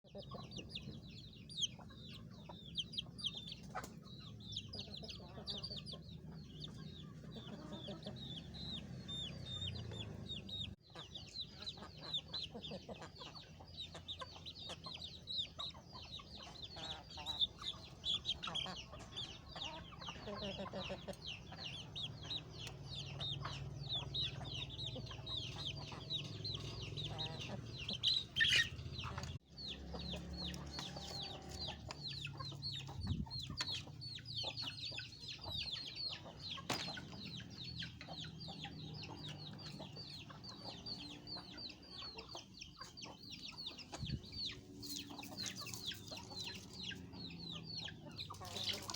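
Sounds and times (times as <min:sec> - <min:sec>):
chickens clucking and calling: 0:00.0 - 0:48.9.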